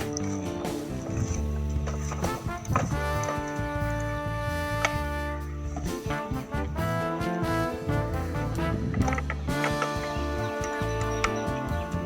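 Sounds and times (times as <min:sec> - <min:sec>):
background music with chords: 0:00.0 - 0:12.0.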